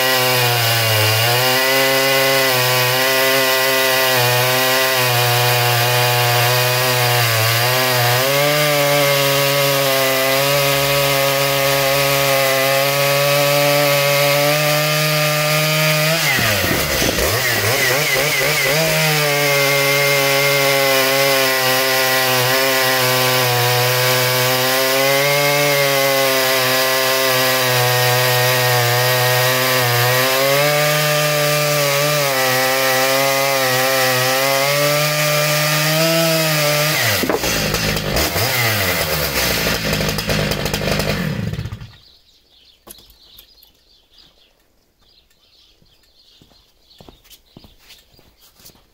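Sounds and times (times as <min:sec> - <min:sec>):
chainsaw cutting log: 0:00.0 - 0:42.0.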